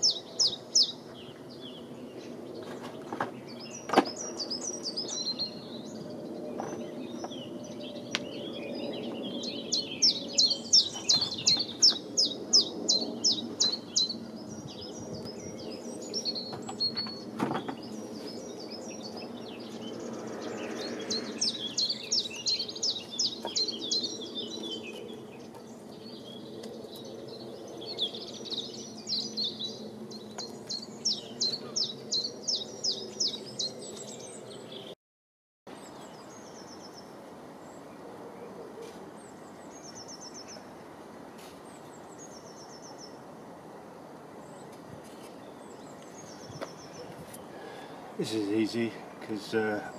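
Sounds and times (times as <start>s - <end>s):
small birds chirping: 0.0s - 35.0s, 35.7s - 49.9s.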